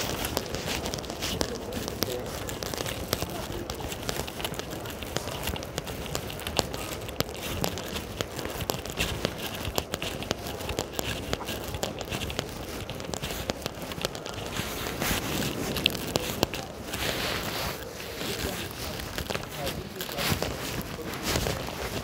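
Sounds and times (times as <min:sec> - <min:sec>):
raindrops ticking: 0:00.0 - 0:22.0.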